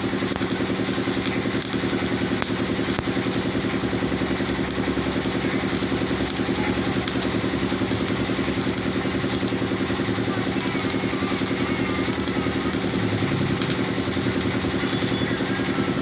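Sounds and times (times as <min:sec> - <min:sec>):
engine idling: 0:00.0 - 0:16.0
irregular crackling: 0:00.0 - 0:16.0.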